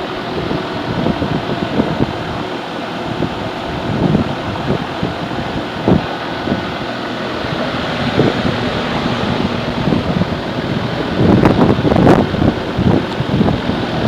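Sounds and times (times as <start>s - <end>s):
condenser fan whooshing: 0.0s - 14.0s.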